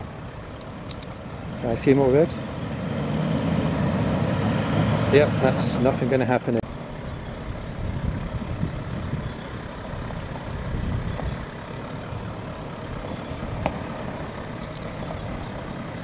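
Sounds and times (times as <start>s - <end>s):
diesel engine revving: 1.3s - 16.0s.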